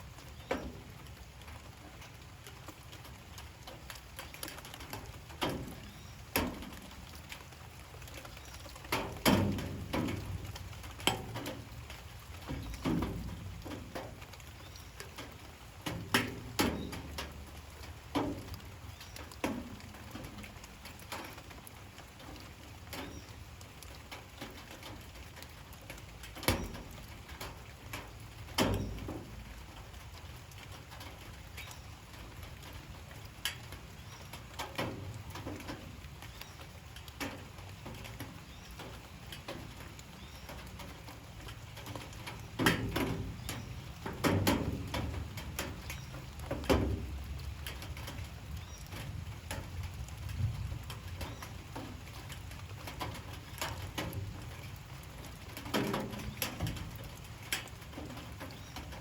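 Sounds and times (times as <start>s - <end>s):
heavy drips striking a surface: 0.0s - 59.0s
light rain hiss: 0.0s - 59.0s.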